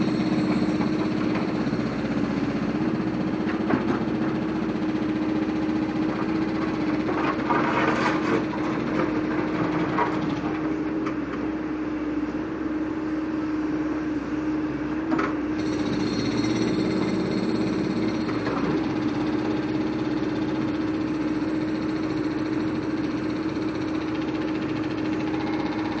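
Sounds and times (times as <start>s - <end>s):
diesel engine running under load: 0.0s - 26.0s.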